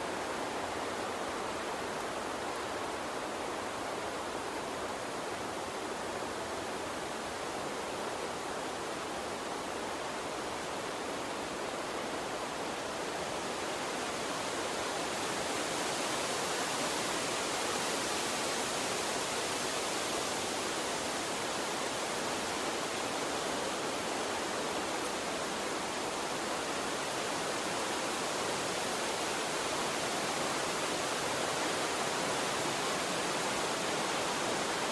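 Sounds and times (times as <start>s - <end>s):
water stream rushing: 0.0s - 34.9s.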